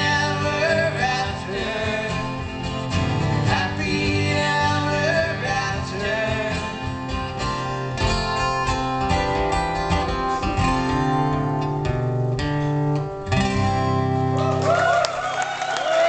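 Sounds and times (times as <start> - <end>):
acoustic guitar strumming chords: 0.0 - 14.4.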